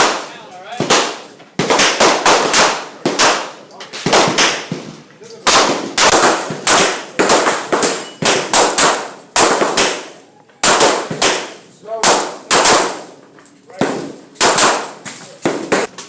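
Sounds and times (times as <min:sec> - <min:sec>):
gunshots: 0:00.0 - 0:13.2, 0:13.8 - 0:16.0.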